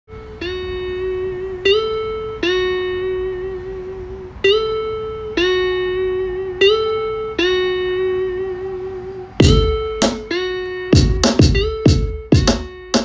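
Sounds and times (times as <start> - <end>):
plucked string melody: 0.1 - 13.0.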